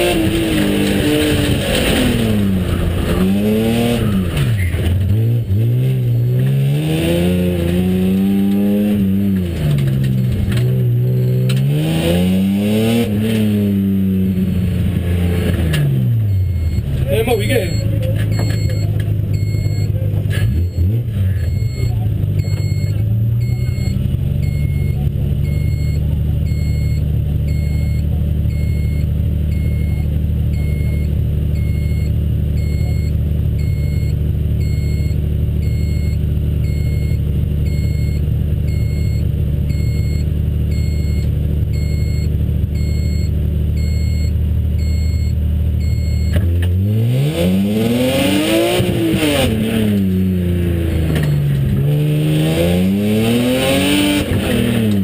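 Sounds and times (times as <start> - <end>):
race car engine idling and revving: 0.0 - 55.0.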